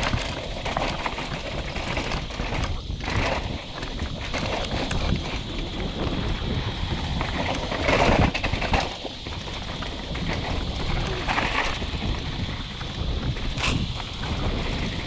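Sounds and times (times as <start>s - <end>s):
bike rattling over bumps: 0.0s - 15.0s
bike tyres on dirt: 0.0s - 15.0s
wind rumble on microphone: 0.0s - 15.0s.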